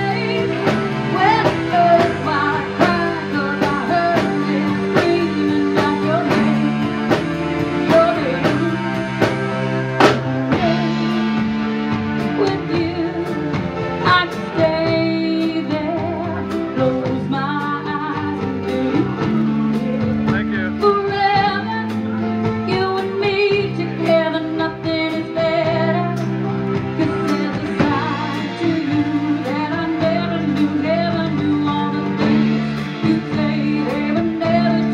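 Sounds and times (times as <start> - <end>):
guitar accompaniment: 0.0 - 34.9.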